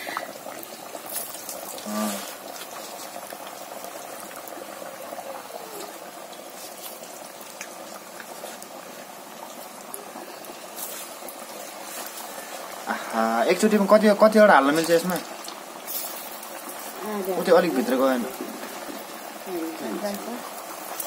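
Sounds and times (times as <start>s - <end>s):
batter sizzling in hot oil: 0.0s - 21.0s.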